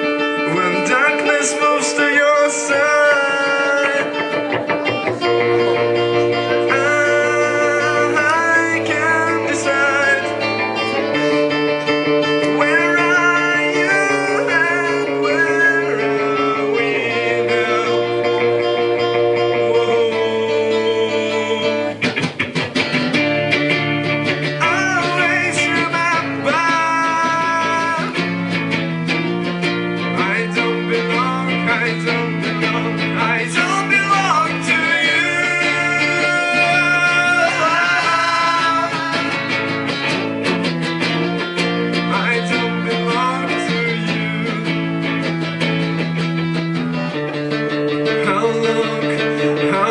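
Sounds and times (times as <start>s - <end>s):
strummed acoustic guitar: 0.0s - 49.9s
man singing: 0.4s - 11.4s, 12.1s - 22.1s, 24.5s - 28.5s, 30.0s - 46.2s, 47.9s - 49.9s.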